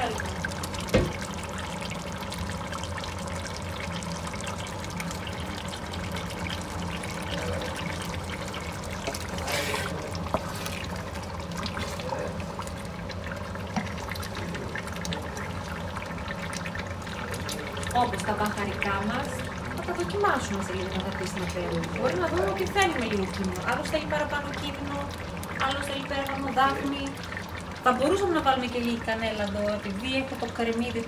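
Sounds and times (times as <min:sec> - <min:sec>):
tomato sauce sizzling in oil: 0:00.0 - 0:31.0.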